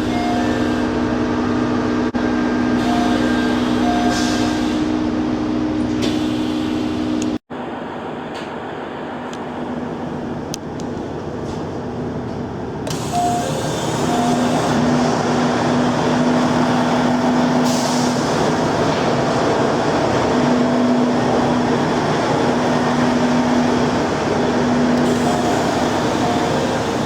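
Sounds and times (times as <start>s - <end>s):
diesel railcar engine idling: 0.0s - 27.0s.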